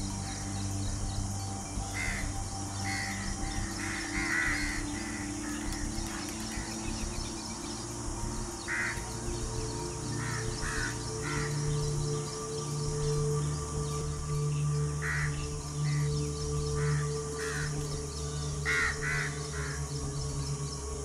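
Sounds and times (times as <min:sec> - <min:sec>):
music with held low notes: 0:00.0 - 0:21.0
birds cawing: 0:00.1 - 0:14.0, 0:15.0 - 0:20.1.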